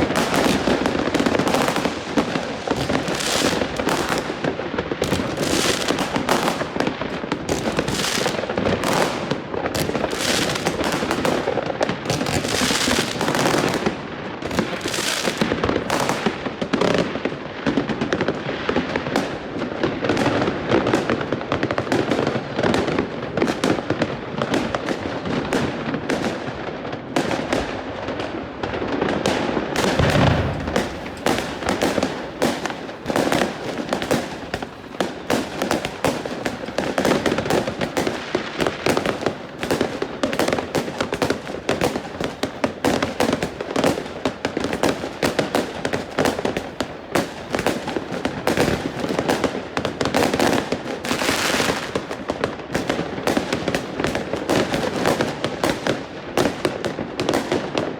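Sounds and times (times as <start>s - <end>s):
fireworks and firecrackers: 0.0s - 57.9s.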